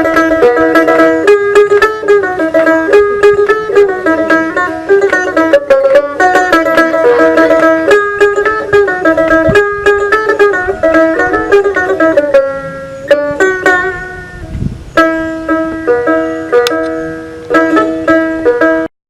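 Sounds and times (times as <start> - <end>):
plucked folk lute melody: 0.0 - 18.9.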